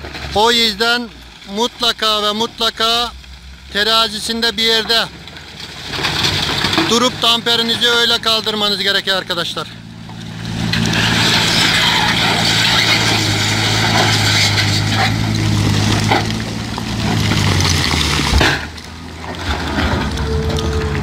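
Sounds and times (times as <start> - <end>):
rock and earth sliding out: 0.0 - 8.8, 10.1 - 21.0
heavy diesel engine running: 0.0 - 21.0.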